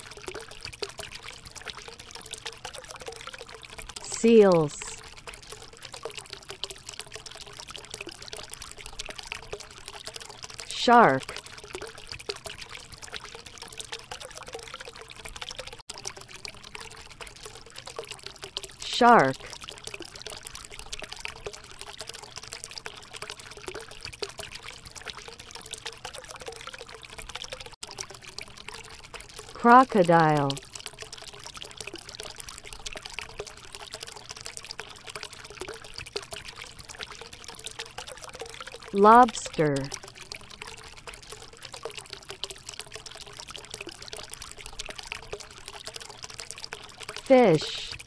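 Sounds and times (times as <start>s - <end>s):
water trickling over rocks: 0.0s - 48.0s.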